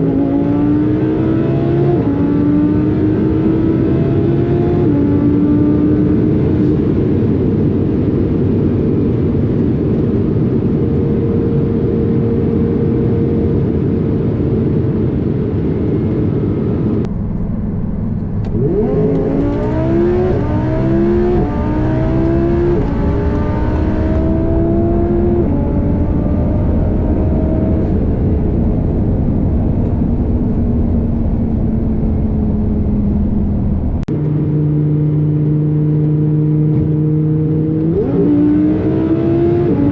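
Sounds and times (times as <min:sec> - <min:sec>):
car engine revving with upshifts: 0:00.0 - 0:14.2, 0:16.6 - 0:39.9.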